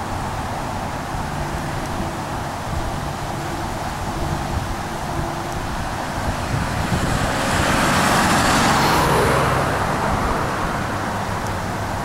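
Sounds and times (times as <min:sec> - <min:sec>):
fighter jet flying over: 0:00.0 - 0:12.0.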